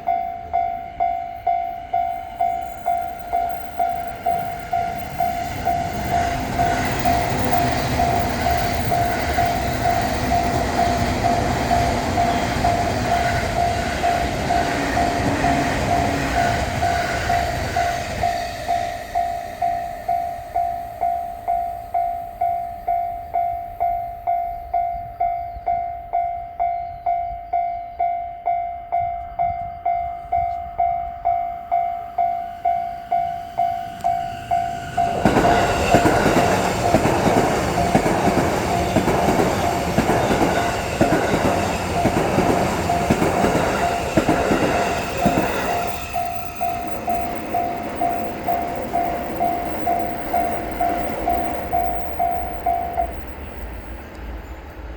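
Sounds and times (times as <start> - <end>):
level-crossing bell ringing: 0.0 - 54.1
train passing: 0.0 - 54.9.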